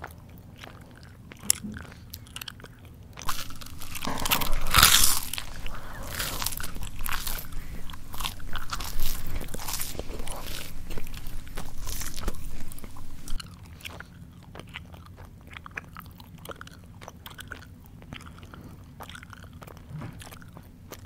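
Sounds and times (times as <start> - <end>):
person chewing food: 0.0 - 21.0
wet mouth clicks: 0.0 - 21.0.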